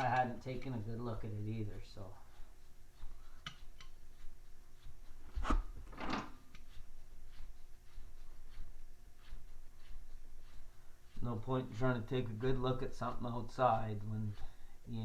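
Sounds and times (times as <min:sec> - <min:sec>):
scraping rub: 0:00.0 - 0:15.0.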